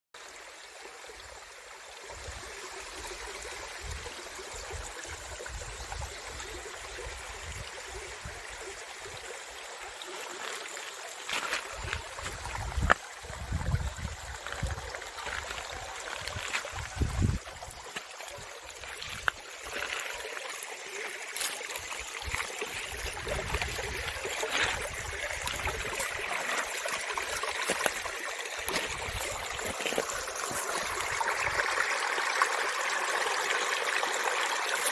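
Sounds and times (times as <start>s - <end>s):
stream rushing: 1.7s - 34.9s.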